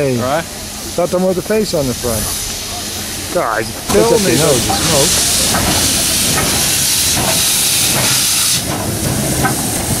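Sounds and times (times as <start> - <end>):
low locomotive rumble: 0.0 - 10.0
steam venting hiss: 0.0 - 10.0.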